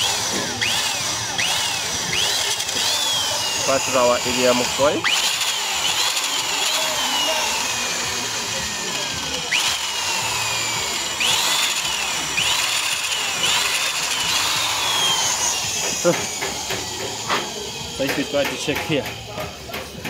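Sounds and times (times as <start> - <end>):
electric drill whining: 0.0 - 20.0.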